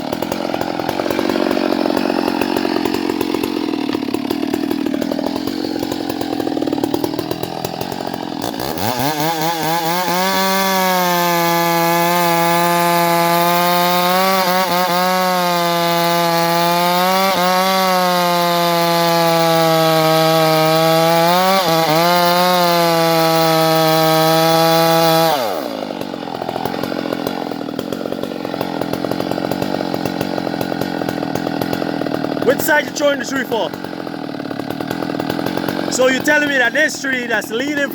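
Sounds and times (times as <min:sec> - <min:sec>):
chainsaw cutting tree trunk: 0:00.0 - 0:37.9.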